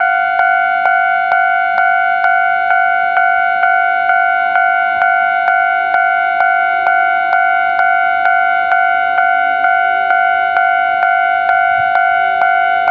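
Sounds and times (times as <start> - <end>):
level crossing alarm bell: 0.0 - 12.9.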